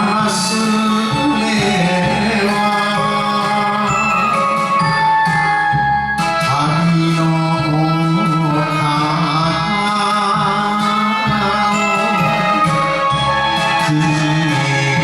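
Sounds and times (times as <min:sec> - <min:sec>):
wavering vocal melody with vibrato: 0:00.0 - 0:05.2, 0:06.5 - 0:15.0
steady bass accompaniment: 0:00.0 - 0:15.0.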